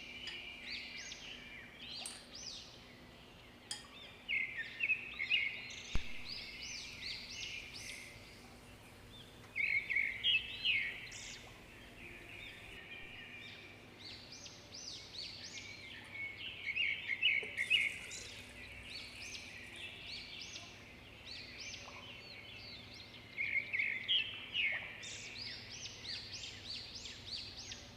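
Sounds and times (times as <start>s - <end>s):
songbirds chirping and trilling: 0.0s - 27.9s.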